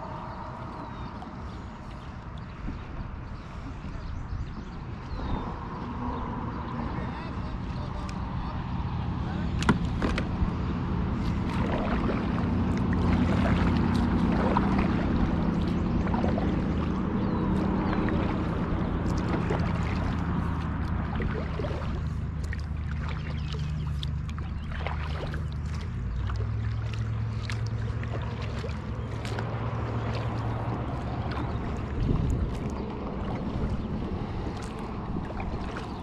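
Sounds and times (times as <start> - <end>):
low motor hum: 0.0 - 36.0
water noise: 0.0 - 36.0.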